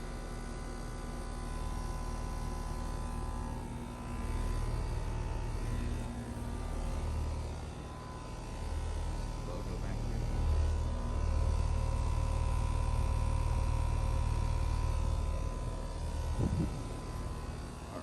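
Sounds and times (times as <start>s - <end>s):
air conditioner unit humming: 0.0s - 18.0s
faint compressor and fan tones: 0.0s - 18.0s.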